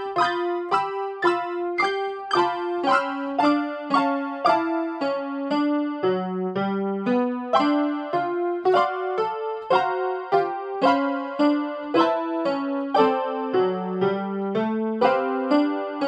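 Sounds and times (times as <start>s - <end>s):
electronic keyboard melody: 0.0s - 16.0s.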